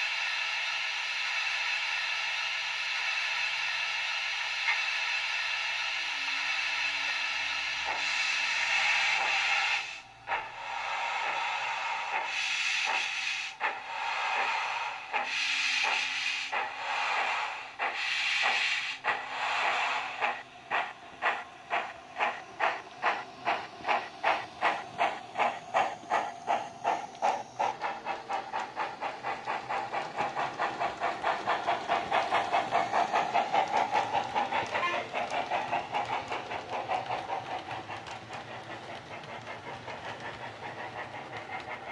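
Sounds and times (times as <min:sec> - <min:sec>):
steam locomotive chuffing from speaker: 0:00.0 - 0:41.9.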